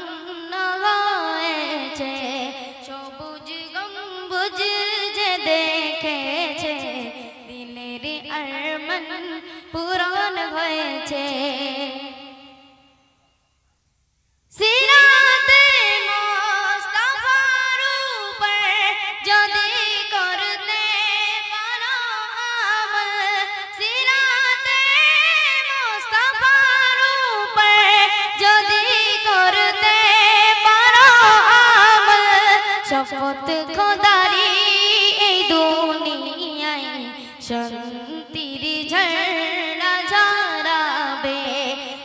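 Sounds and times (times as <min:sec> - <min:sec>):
boy singing unaccompanied: 0:00.0 - 0:12.7, 0:14.5 - 0:42.0.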